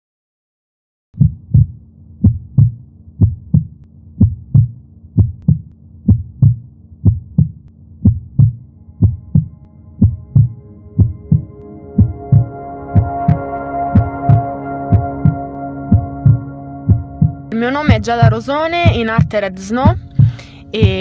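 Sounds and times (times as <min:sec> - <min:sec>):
faint low drone: 0:01.2 - 0:19.2, 0:19.9 - 0:21.0
heartbeat thumps: 0:01.2 - 0:21.0.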